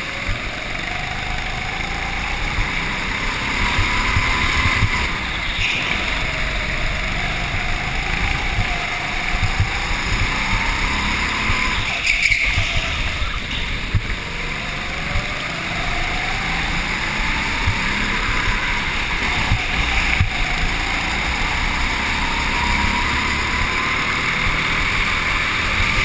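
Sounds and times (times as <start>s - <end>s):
go-kart motor running: 0.0s - 26.0s
rushing noise: 0.0s - 26.0s.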